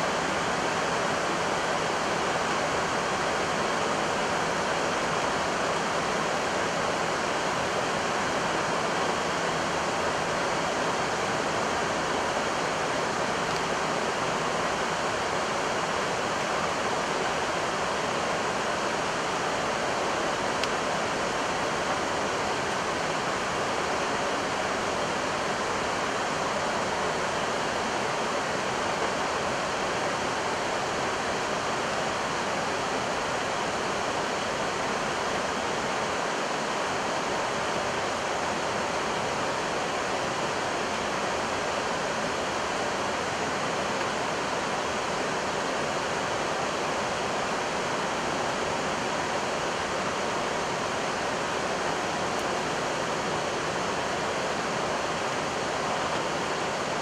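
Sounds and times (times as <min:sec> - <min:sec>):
rush of airflow noise: 0:00.0 - 0:57.0.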